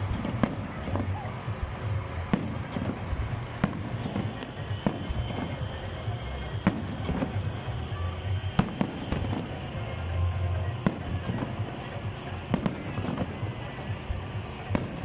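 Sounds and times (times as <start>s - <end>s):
fireworks bursting bangs: 0.0s - 15.0s
low continuous rumble: 0.0s - 15.0s.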